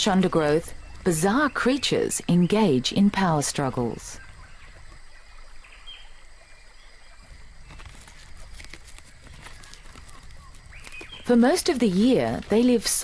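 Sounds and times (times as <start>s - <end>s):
low steady forest hiss: 0.0s - 13.0s.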